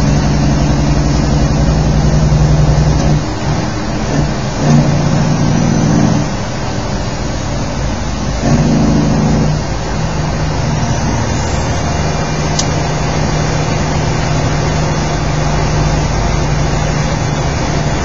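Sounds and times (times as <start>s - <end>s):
diesel engine drone: 0.0s - 18.0s
tyres hissing on wet road: 0.0s - 18.0s.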